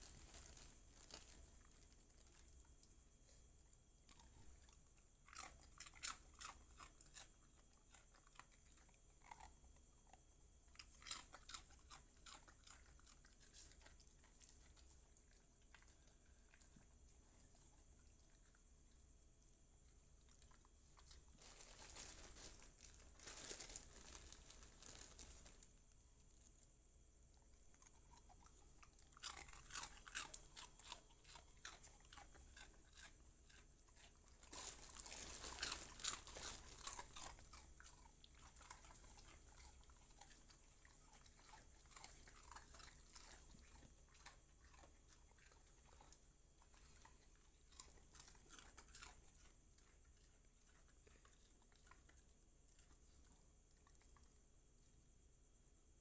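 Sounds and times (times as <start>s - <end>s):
dog crunching food: 4.0s - 19.0s, 19.8s - 26.6s, 27.4s - 54.3s.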